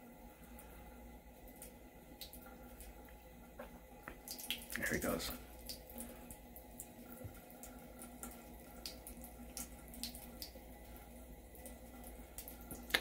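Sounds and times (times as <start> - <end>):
water splashes and drips: 0.2 - 13.0
tap running thin stream: 1.5 - 13.0.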